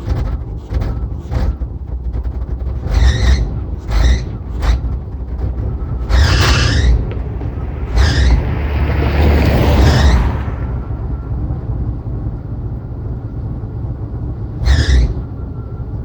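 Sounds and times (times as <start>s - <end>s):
engine running rough: 0.0s - 16.0s.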